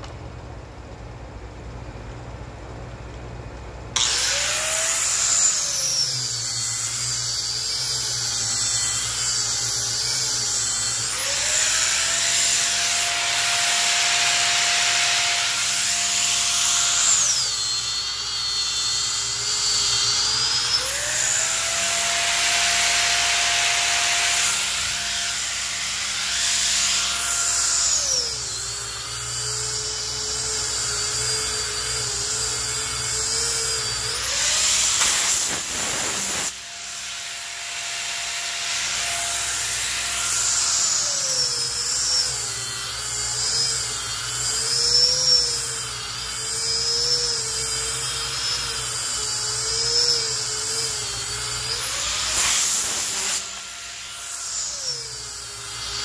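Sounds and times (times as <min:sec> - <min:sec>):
angle grinder sanding wood: 0:04.0 - 0:56.0.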